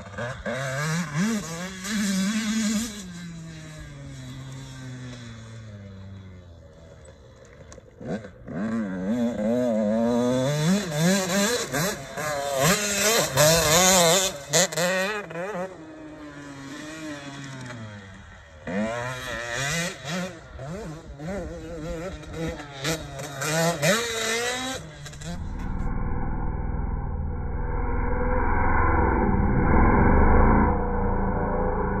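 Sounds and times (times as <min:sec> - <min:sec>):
dirt bike engine revving: 0:00.0 - 0:06.9, 0:08.0 - 0:27.6.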